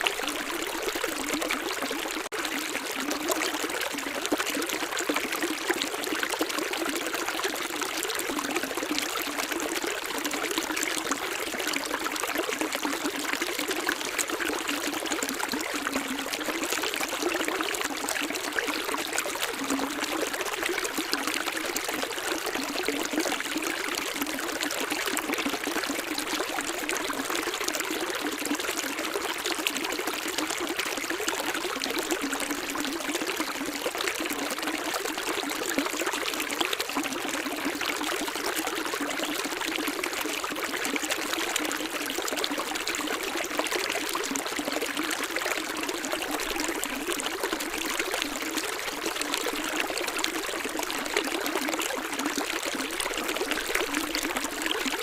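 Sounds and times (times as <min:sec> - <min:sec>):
water trickling and pouring: 0:00.0 - 0:55.0.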